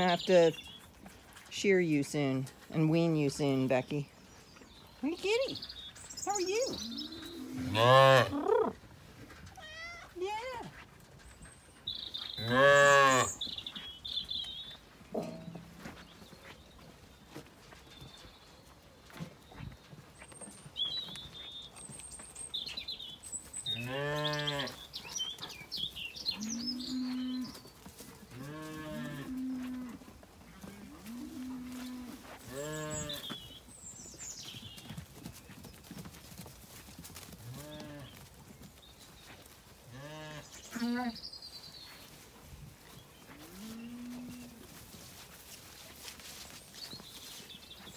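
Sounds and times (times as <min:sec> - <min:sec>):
small birds chirping: 0:00.0 - 0:30.7, 0:31.9 - 0:44.6, 0:45.7 - 0:47.9.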